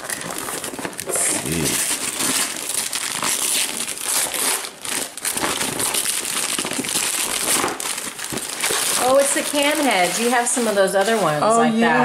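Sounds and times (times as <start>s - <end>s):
wrapping paper tearing and crumpling: 0.0s - 11.5s.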